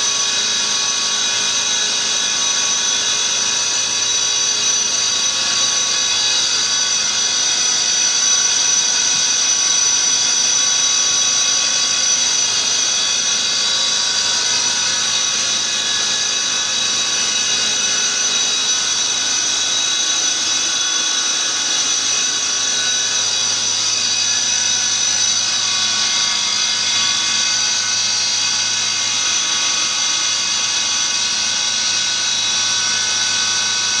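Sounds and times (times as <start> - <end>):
high-pitched mechanical whine: 0.0 - 34.0.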